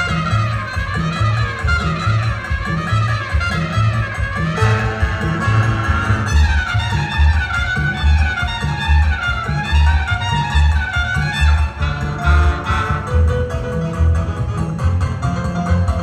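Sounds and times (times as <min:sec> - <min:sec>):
big band playing: 0:00.0 - 0:16.0.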